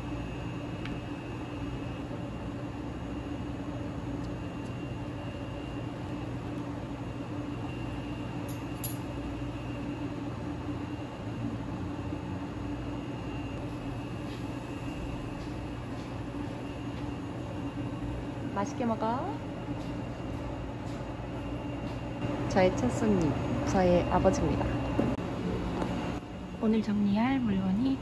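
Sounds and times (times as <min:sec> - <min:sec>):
steady hum and room noise: 0:00.0 - 0:28.0.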